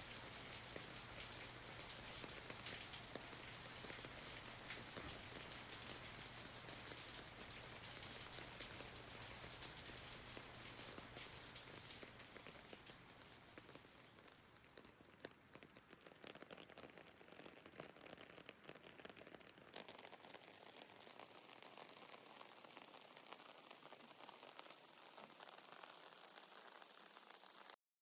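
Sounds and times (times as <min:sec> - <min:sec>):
light rain pattering: 0:00.0 - 0:27.8.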